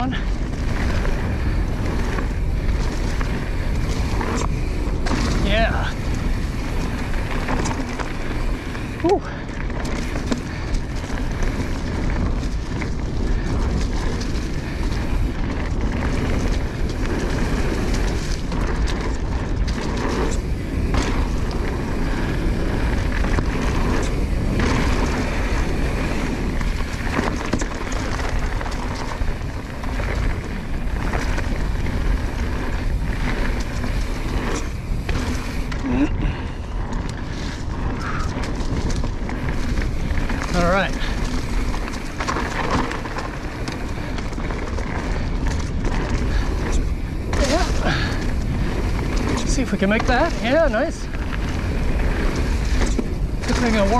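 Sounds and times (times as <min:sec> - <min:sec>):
bike knocks and rattles: 0:00.0 - 0:53.9
tyre rumble on dirt: 0:00.0 - 0:53.9
wind buffeting microphone: 0:00.0 - 0:53.9.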